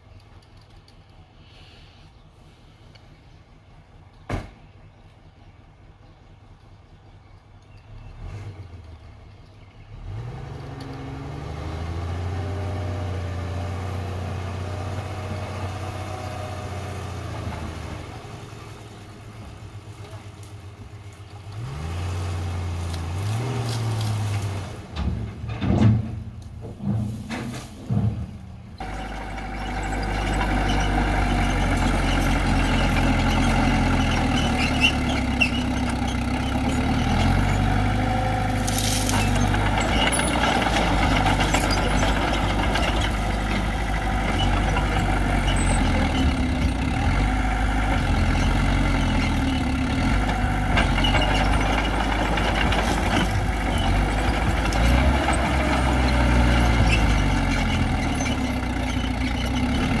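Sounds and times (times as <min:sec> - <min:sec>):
heavy diesel machinery running: 0:10.1 - 1:00.0.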